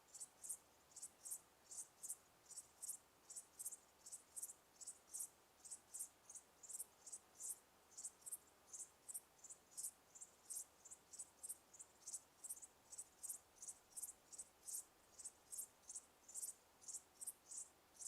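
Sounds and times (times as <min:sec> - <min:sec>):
crickets chirping: 0:00.1 - 0:18.0.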